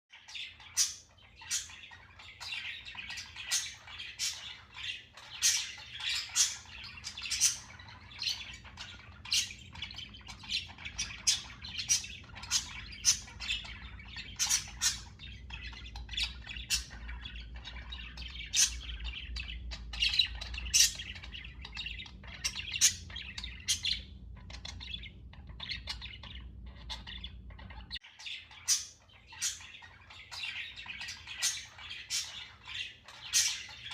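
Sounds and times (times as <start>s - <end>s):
budgerigars chirping and chattering: 0.1s - 33.9s
faint low hum: 0.2s - 33.9s.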